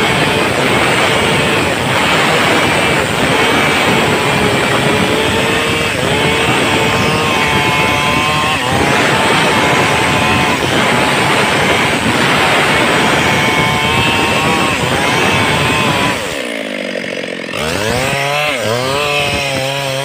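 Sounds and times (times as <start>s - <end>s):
chainsaw cutting through log: 0.0s - 20.0s.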